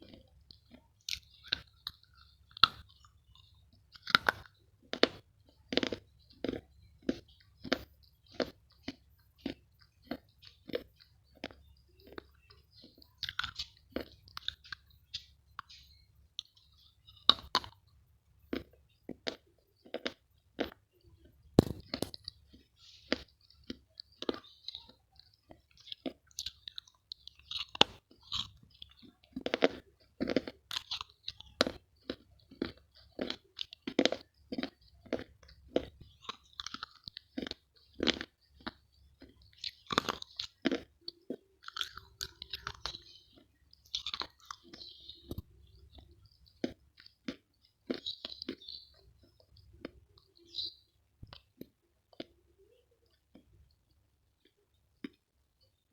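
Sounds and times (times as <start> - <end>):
chewing crunchy snack: 0.0 - 55.8.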